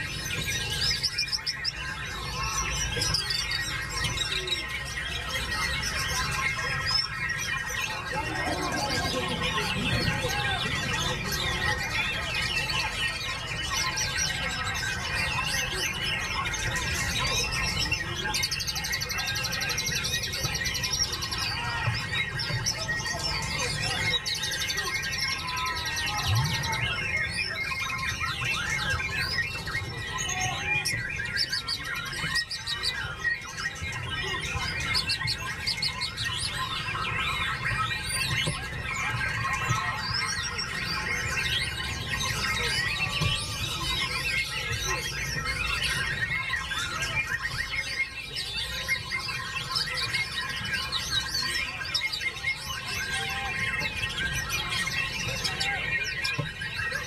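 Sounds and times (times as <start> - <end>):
other songbirds singing: 0.0 - 57.0.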